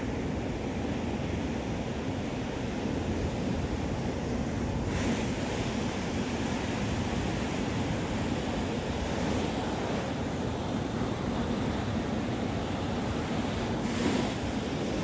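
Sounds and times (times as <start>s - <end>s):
waves washing onto beach: 1.2s - 15.0s.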